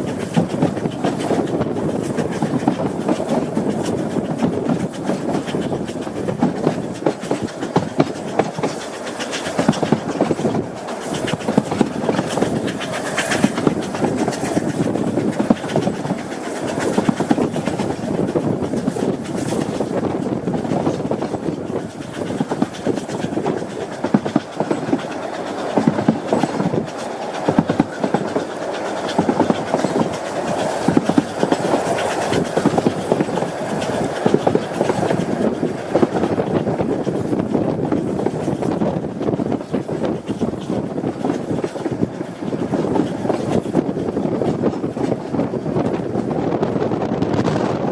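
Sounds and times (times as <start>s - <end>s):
steam locomotive chuffing: 0.0s - 47.9s.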